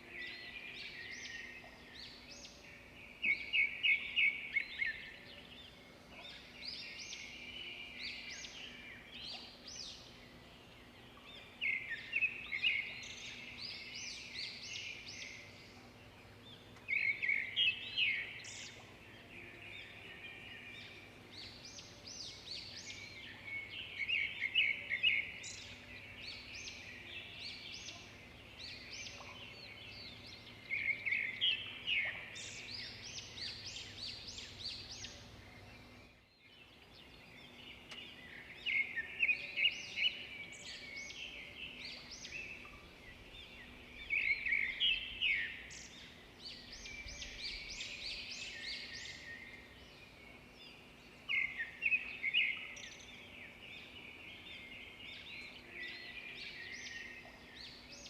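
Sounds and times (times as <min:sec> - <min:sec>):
soft bird chirps and calls: 0:00.0 - 0:58.0.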